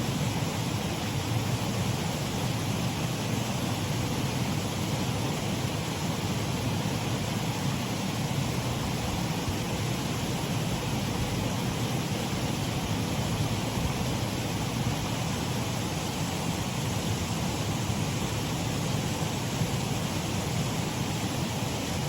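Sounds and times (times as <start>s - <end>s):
water rushing over waterfall: 0.0s - 22.0s.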